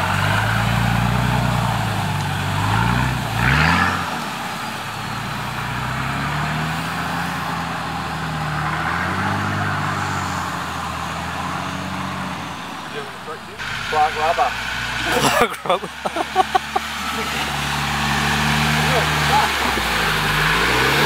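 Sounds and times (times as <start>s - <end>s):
engine revving hard: 0.0s - 21.0s.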